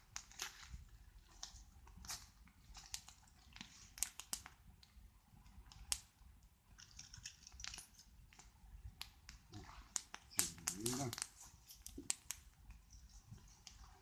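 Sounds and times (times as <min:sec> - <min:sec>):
campfire crackling: 0:00.0 - 0:13.9.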